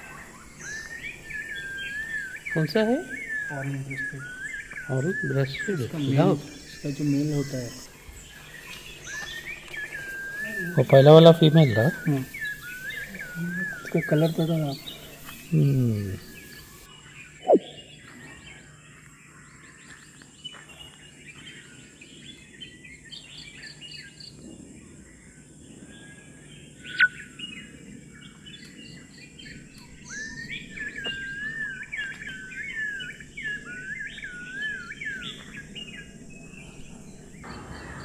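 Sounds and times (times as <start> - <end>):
wavering whistled birdsong: 0.0 - 38.0
wild birds chirping and calling: 0.0 - 38.0.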